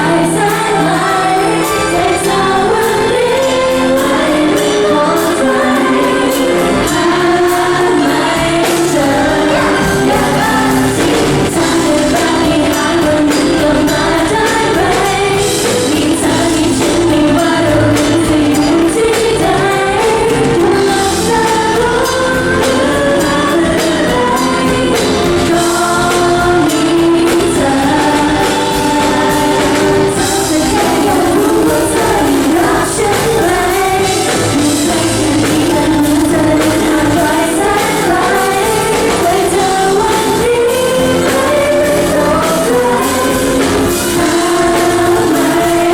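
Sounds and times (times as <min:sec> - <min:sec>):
pop backing music with beat: 0:00.0 - 0:45.9
women singing together: 0:00.0 - 0:45.9.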